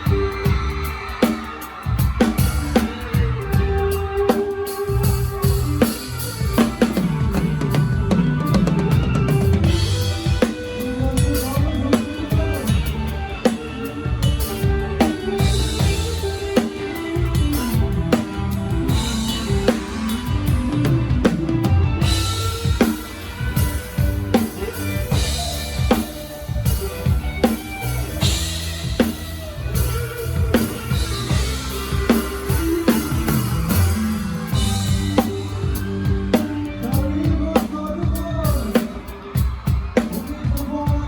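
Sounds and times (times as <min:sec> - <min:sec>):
bass guitar: 0:00.0 - 0:41.0
guitar: 0:00.0 - 0:41.0.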